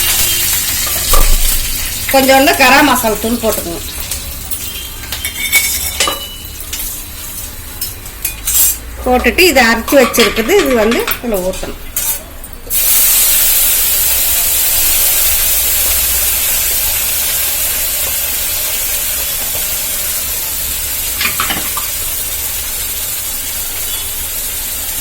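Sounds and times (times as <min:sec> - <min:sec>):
paste frying in hot oil: 0:00.0 - 0:25.0.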